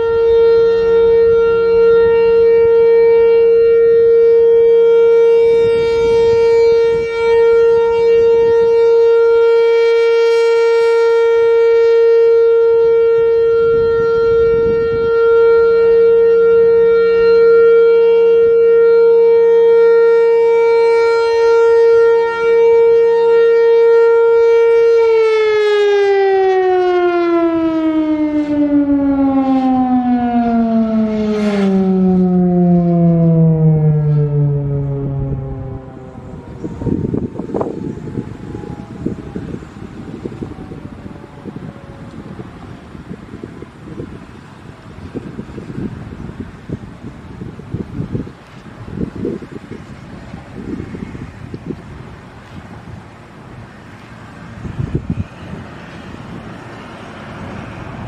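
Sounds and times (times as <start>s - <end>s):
warning siren: 0.0s - 58.0s.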